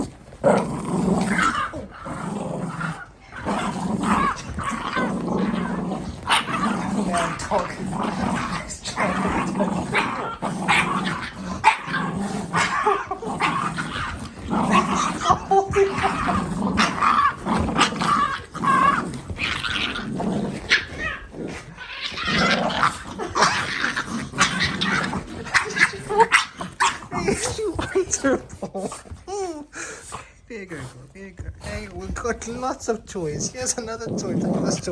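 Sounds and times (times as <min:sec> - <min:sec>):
dogs growling: 0:00.0 - 0:34.9.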